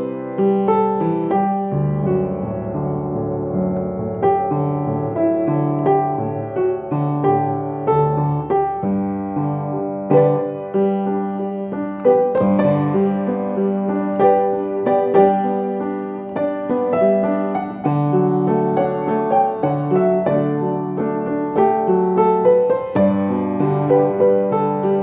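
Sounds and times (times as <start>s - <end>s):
solo piano piece: 0.0s - 25.0s.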